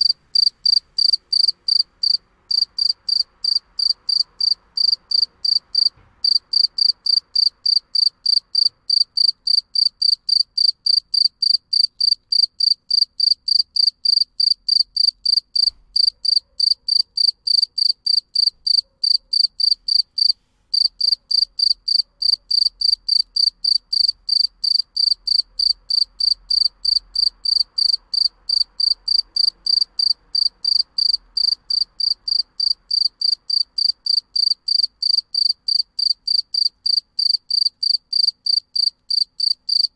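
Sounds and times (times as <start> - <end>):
field cricket chirping: 0.0 - 39.9.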